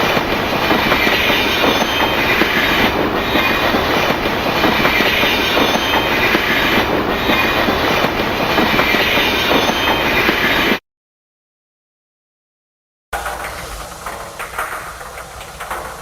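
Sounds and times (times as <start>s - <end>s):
train rattling along rails: 0.0s - 10.8s, 13.2s - 16.0s
wheels clicking over track: 0.0s - 10.8s, 13.2s - 16.0s.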